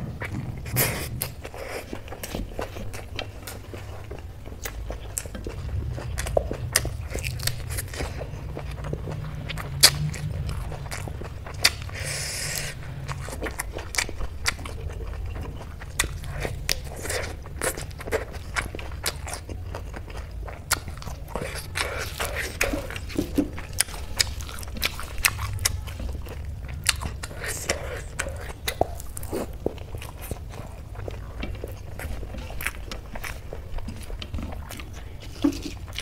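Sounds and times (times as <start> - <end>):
wet chewing and lip-smacking: 0.0 - 36.0.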